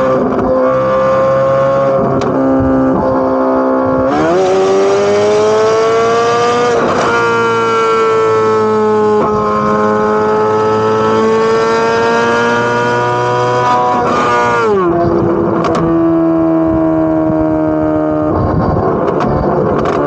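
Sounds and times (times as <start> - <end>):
car engine revving under load: 0.0 - 20.0.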